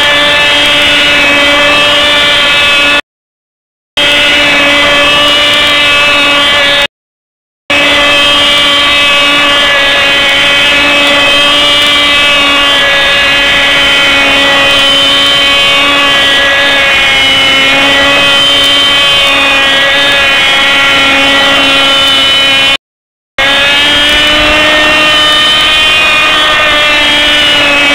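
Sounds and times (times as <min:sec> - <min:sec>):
model engine high-pitched buzz: 0:00.0 - 0:03.0, 0:04.0 - 0:06.9, 0:07.7 - 0:22.8, 0:23.4 - 0:27.9.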